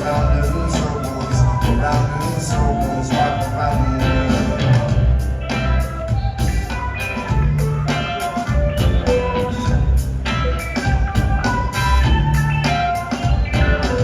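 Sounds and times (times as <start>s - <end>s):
live band playing instrumental: 0.0s - 14.0s.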